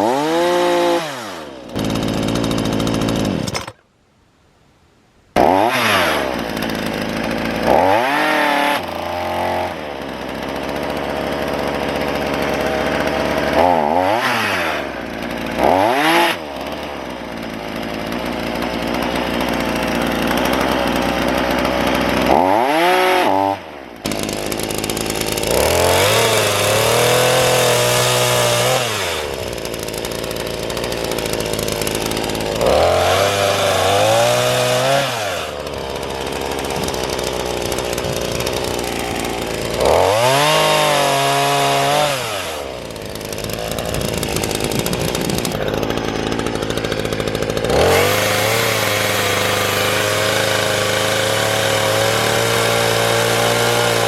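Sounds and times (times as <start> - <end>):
small engine revving: 0.0 - 3.8, 5.4 - 54.0.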